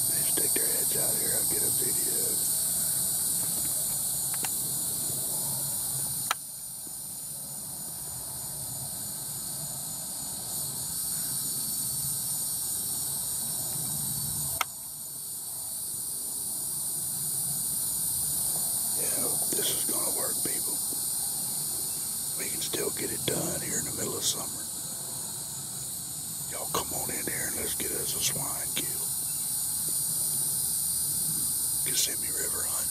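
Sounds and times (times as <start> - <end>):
insects chorus: 0.0 - 32.9.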